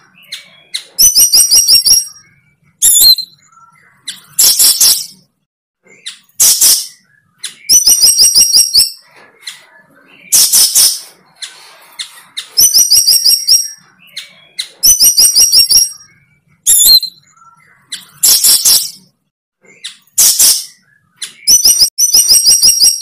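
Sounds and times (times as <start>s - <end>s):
bird harsh calls and chirps: 0.0s - 23.0s.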